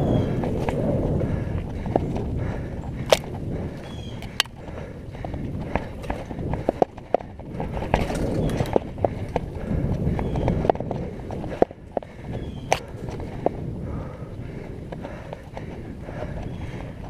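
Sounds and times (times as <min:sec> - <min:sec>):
bike rattling over bumps: 0:00.0 - 0:17.0
bike tyres rumbling on dirt: 0:00.0 - 0:17.0.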